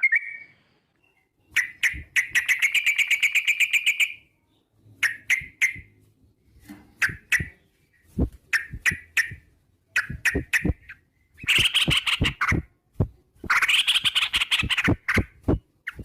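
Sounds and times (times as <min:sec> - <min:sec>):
bird singing sharp notes and trill: 0:00.0 - 0:16.0.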